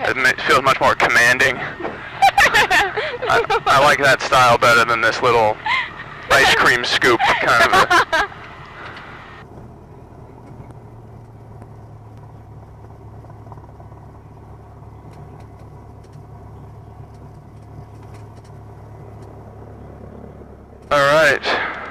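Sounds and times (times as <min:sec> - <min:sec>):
light aircraft piston engine droning: 0:00.0 - 0:21.9.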